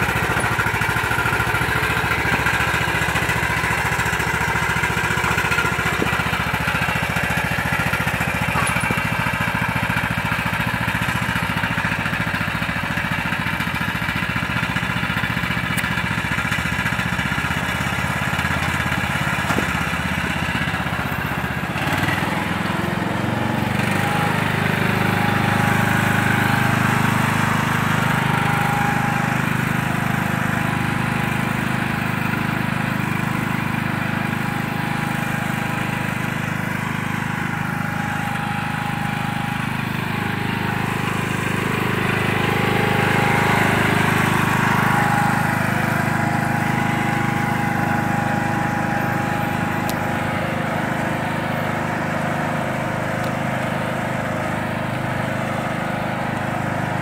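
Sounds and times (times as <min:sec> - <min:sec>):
riding lawn mower engine: 0:00.0 - 0:57.0.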